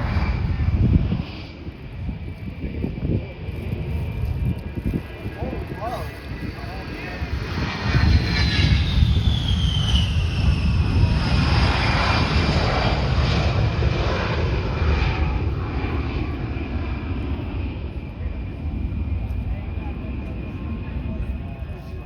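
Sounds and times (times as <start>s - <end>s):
jet engines passing by: 0.0s - 22.0s.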